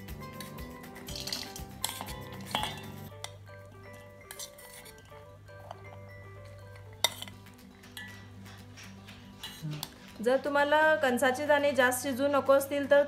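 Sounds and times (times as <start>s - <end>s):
spoon scraping steel bowls: 0.0s - 10.6s
background music: 0.0s - 13.0s.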